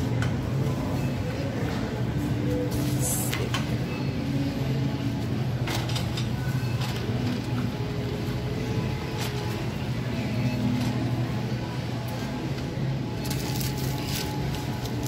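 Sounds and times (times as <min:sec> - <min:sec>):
shopping cart wheels rumbling: 0:00.0 - 0:15.0.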